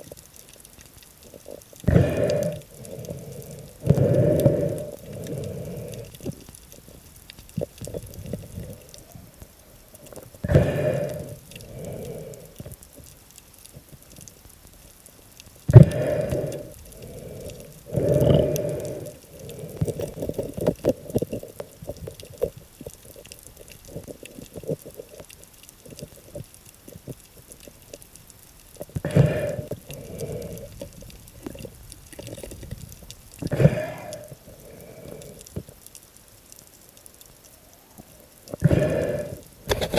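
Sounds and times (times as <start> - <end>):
muffled rushes of water: 0.0 - 39.9
underwater murmur: 0.2 - 14.3, 15.6 - 35.8.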